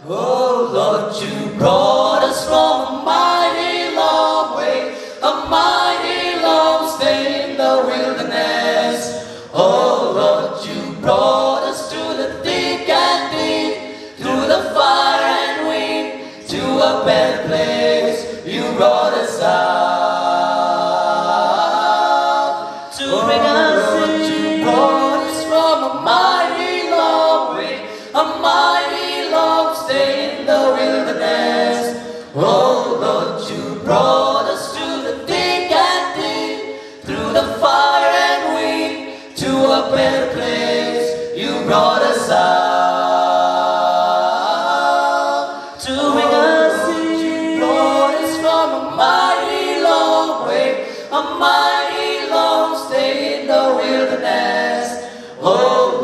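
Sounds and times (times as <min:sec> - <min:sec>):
male a cappella group singing: 0:00.0 - 0:56.0.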